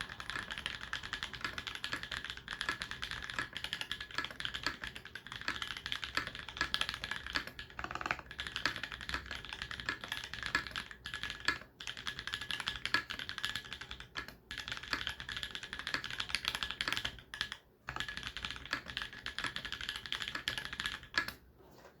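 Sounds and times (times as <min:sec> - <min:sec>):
mechanical keyboard typing: 0:00.0 - 0:21.4.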